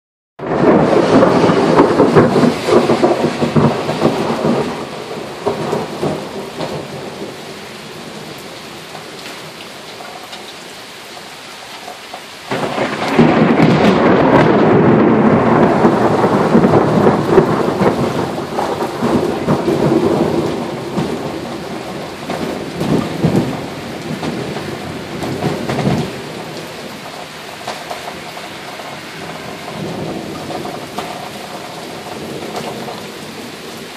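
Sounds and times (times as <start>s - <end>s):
thunder rolling: 0.4s - 10.2s, 12.5s - 33.9s
steady rain: 0.4s - 33.9s.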